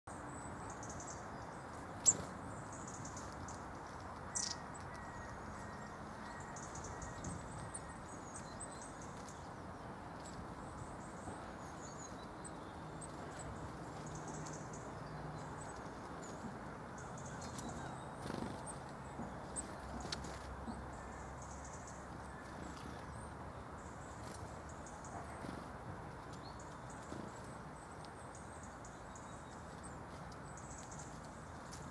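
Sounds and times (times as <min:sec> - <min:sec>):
birds chirping: 0:00.1 - 0:31.9.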